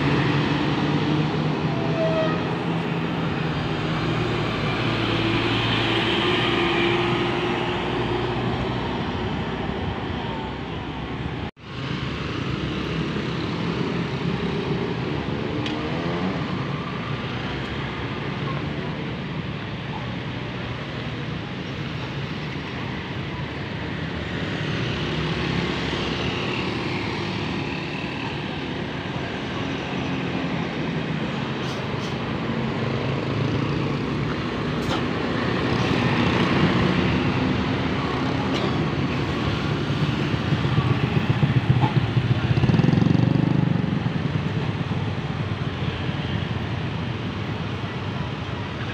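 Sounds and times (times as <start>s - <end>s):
road traffic passing: 0.0s - 48.9s.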